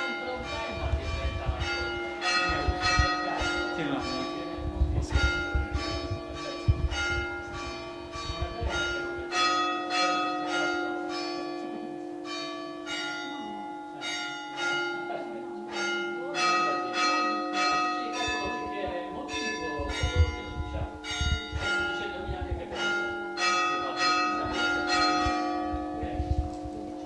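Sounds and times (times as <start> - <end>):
bells ringing: 0.0 - 27.0.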